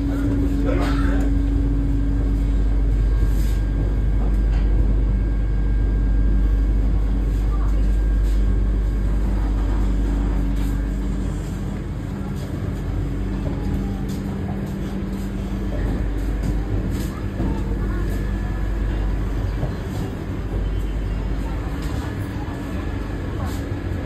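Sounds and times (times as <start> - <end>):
hum: 0.0 - 21.8
train running rumble: 0.0 - 24.0.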